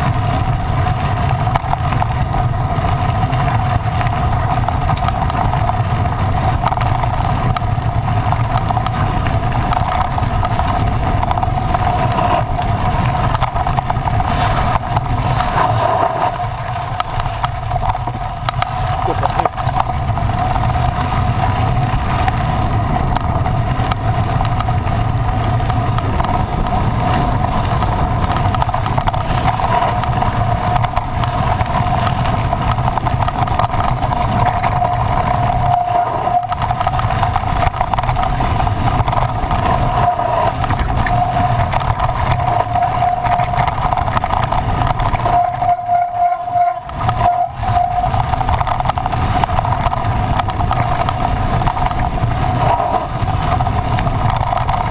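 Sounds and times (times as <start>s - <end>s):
vehicle engine rumble: 0.0s - 54.9s
high whine: 8.3s - 54.9s.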